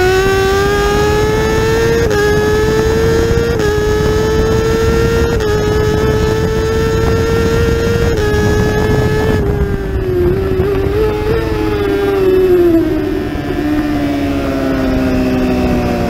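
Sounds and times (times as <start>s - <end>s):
motorcycle engine at full throttle: 0.0s - 16.0s.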